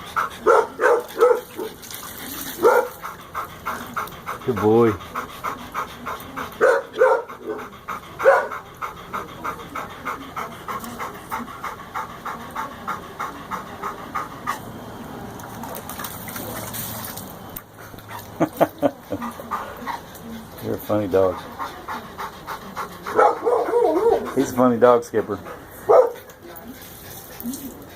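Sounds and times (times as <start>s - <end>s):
dog panting: 0.0s - 16.6s, 17.6s - 27.9s.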